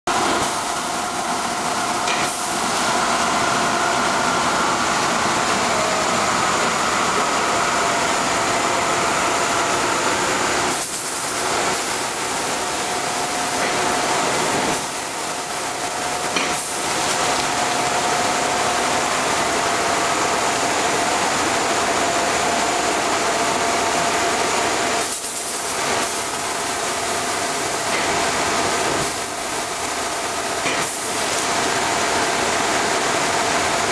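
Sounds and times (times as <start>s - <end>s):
steady machine whining tones: 0.1s - 24.9s, 25.6s - 33.9s.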